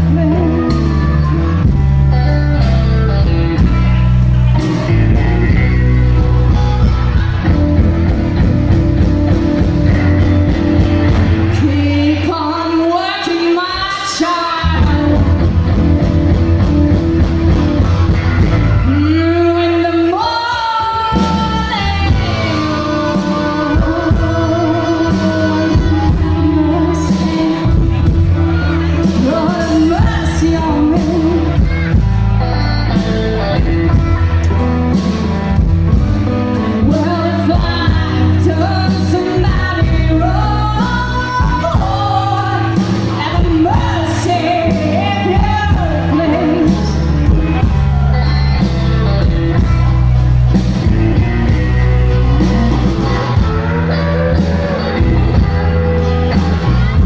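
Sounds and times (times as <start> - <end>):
person singing: 0.0 - 49.9, 50.8 - 57.0
bass guitar: 0.0 - 57.0
drums: 0.0 - 57.0
electric guitar: 0.0 - 57.0.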